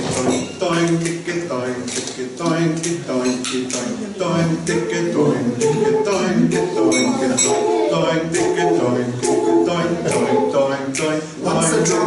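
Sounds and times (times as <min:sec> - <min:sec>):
men singing a cappella: 0:00.0 - 0:12.0.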